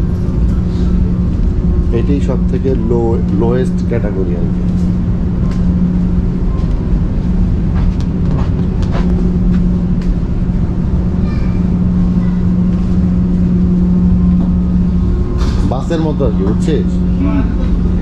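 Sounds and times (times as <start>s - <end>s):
ship engine drone: 0.0s - 18.0s.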